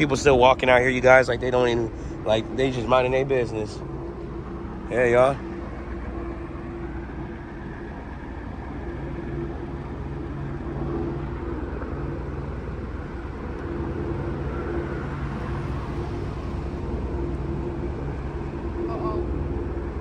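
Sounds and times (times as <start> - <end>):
helicopter hovering: 0.0 - 20.0.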